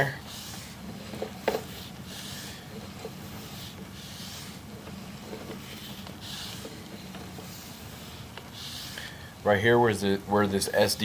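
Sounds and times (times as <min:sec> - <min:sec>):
soft hissing swishes: 0:00.0 - 0:09.2
low electrical hum: 0:00.0 - 0:11.0.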